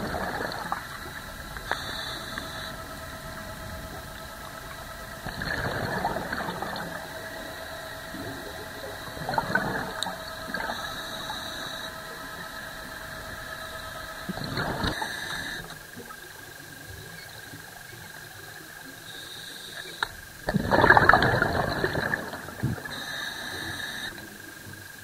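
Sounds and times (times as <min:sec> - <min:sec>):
faint steady whine: 0:00.0 - 0:25.0
underwater exhaled bubbles: 0:00.0 - 0:25.0.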